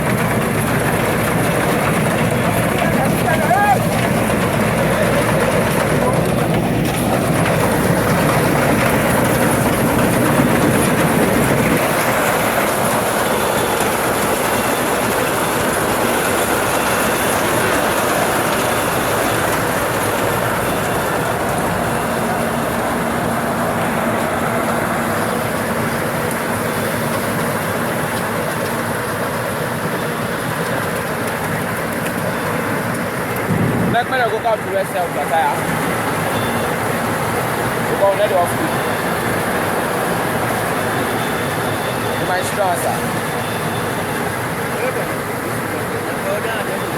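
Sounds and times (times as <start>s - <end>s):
farm machinery rumbling: 0.0s - 46.9s.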